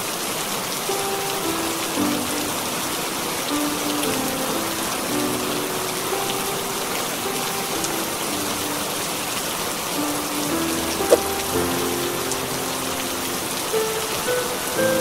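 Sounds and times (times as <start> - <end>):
heavy rain hissing: 0.0 - 15.0
slow soft melody: 0.0 - 15.0.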